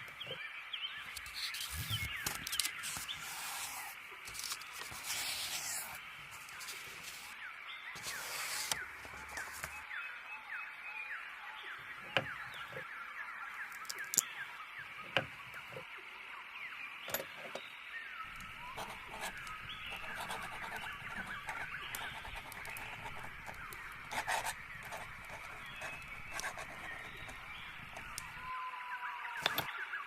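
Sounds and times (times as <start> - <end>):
small birds chirping: 0.0 - 9.9, 11.7 - 28.5.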